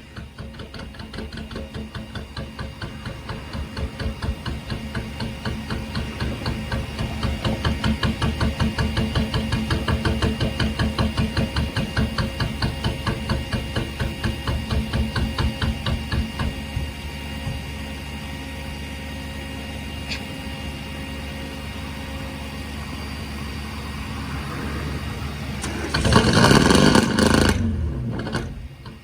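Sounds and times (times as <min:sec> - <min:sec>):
engine running with pulsing knock: 0:00.0 - 0:29.0.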